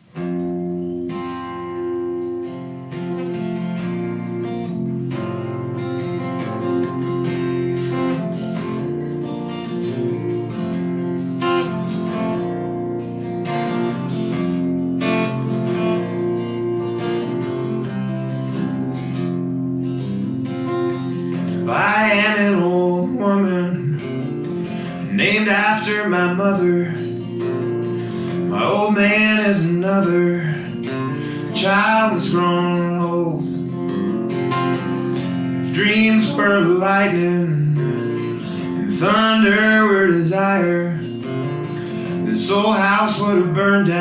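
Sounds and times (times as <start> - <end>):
acoustic guitar strummed chords: 0.0 - 44.0.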